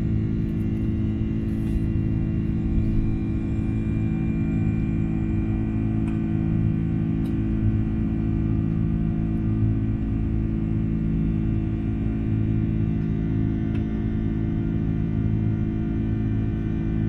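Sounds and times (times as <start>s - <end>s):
jet engine drone in cabin: 0.0s - 17.0s.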